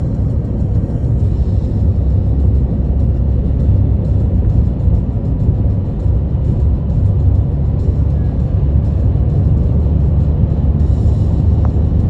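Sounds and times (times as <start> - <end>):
background music: 0.0 - 12.0
car engines idling: 0.0 - 12.0.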